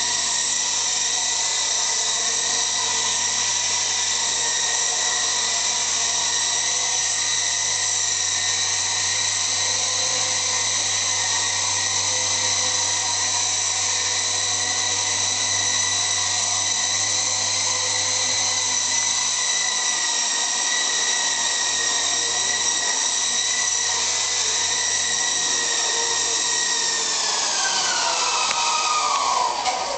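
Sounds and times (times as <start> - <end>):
rc helicopter rotors whining: 0.0 - 29.9.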